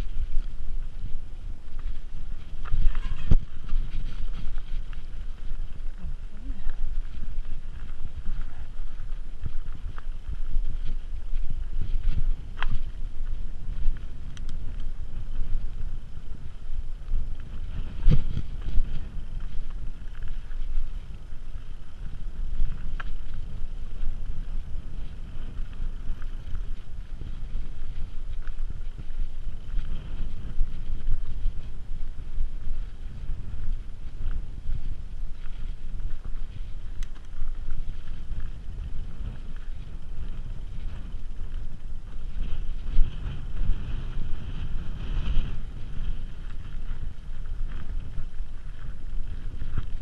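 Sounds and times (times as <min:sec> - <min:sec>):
bike clicks and rattles: 0:00.0 - 0:50.0
tyres rolling on dirt trail: 0:00.0 - 0:50.0
wind buffeting microphone: 0:00.0 - 0:50.0.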